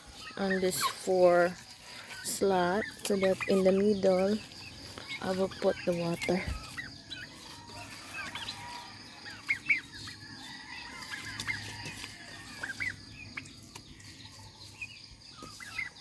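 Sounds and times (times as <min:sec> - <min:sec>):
turkeys calling: 0:00.0 - 0:16.0.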